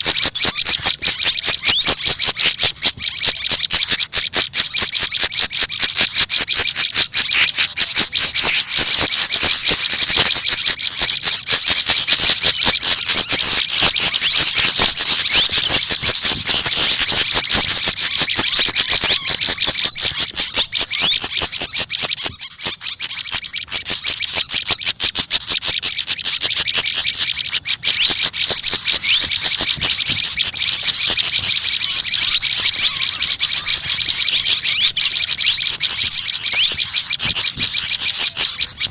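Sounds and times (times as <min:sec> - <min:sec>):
songbirds chattering: 0:00.0 - 0:38.9.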